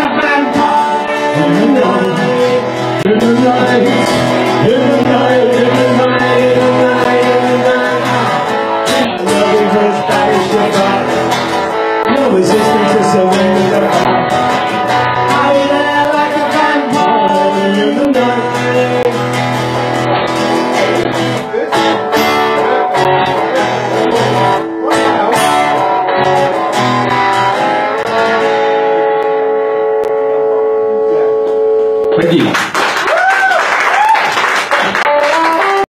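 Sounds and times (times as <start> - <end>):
guitars with singing voice: 0.0 - 32.5, 34.8 - 35.9.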